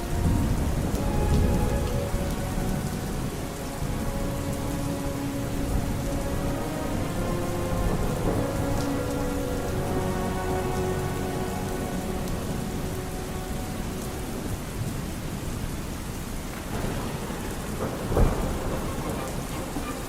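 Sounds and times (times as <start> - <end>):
distant opera music: 0.0 - 20.0
heavy rain: 0.0 - 20.0
rolling thunder rumble: 0.0 - 20.0.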